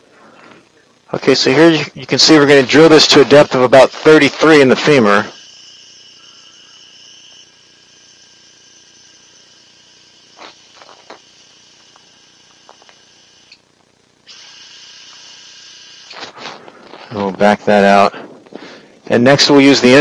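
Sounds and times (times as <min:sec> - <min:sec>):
surgical drill whining: 0:00.0 - 0:20.0.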